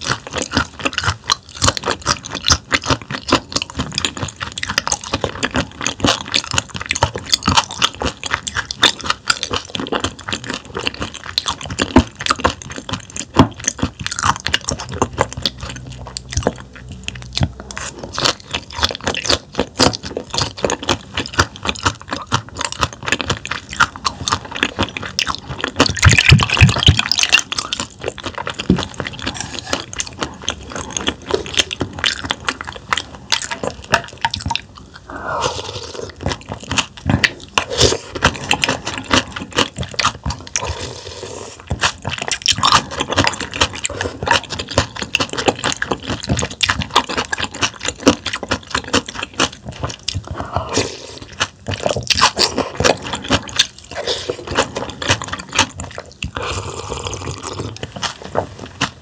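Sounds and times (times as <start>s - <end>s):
person chewing crunchy fish: 0.0s - 59.0s.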